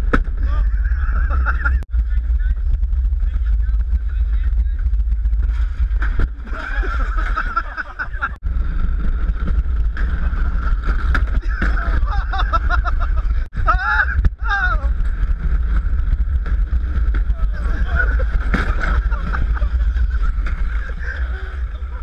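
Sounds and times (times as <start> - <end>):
wheels rumbling on concrete: 0.0 - 22.0
wind on microphone: 0.0 - 22.0.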